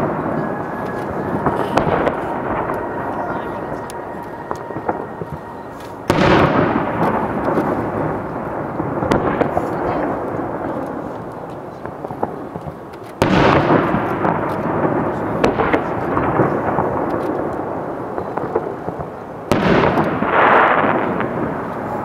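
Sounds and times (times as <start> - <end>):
fireworks booming: 0.0 - 22.0
fireworks pops and crackles: 0.0 - 22.0
rolling rumble: 0.0 - 22.0.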